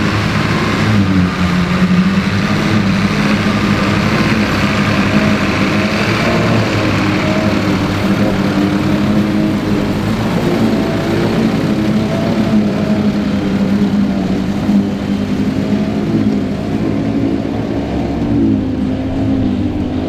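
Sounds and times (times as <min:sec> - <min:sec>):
forage harvester mechanical rush: 0:00.0 - 0:20.0
tractor diesel engine running: 0:00.0 - 0:20.0.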